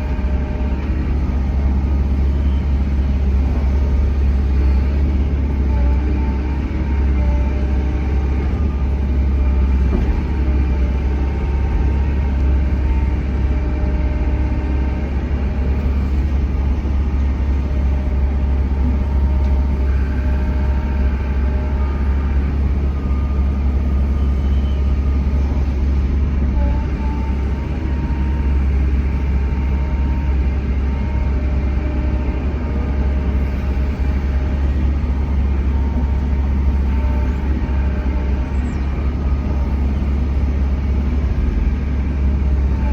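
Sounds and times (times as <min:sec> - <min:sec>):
excavator diesel engine drone: 0:00.0 - 0:42.9.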